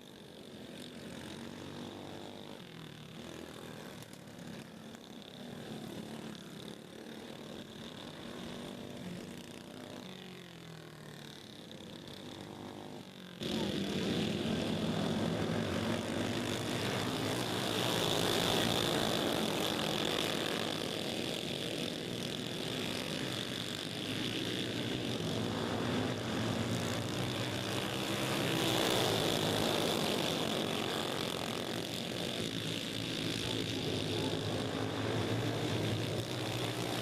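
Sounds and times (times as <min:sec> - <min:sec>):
go-kart engines buzzing: 0:00.0 - 0:37.0.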